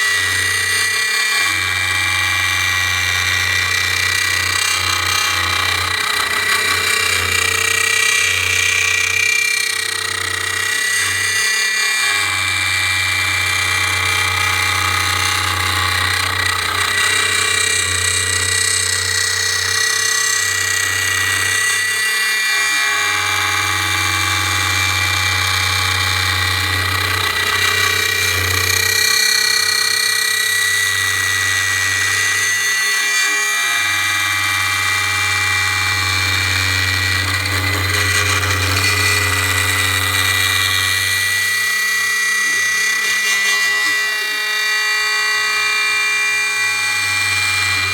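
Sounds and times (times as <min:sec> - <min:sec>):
router spindle whine: 0:00.0 - 0:47.9.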